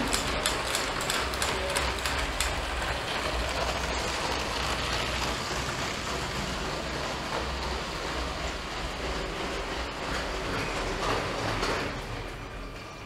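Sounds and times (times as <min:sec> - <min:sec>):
toy train motor whirring: 0:00.0 - 0:10.5
wheels rattling over track: 0:00.0 - 0:13.0.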